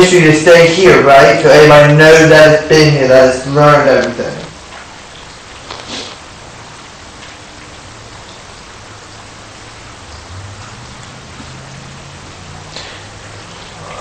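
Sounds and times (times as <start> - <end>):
steady static hiss: 0.0 - 14.0.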